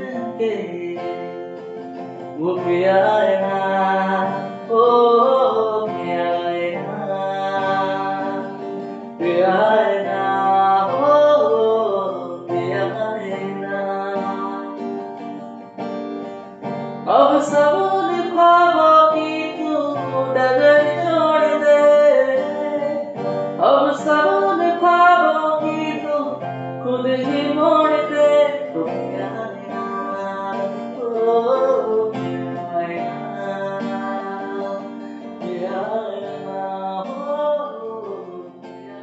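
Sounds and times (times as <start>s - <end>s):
man singing: 0.0s - 15.4s, 17.0s - 39.0s
strummed acoustic guitar: 0.0s - 39.0s.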